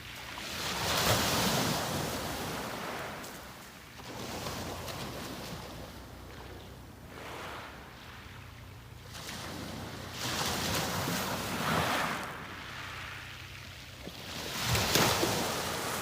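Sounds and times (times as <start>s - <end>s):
small waves breaking on beach: 0.0s - 16.0s.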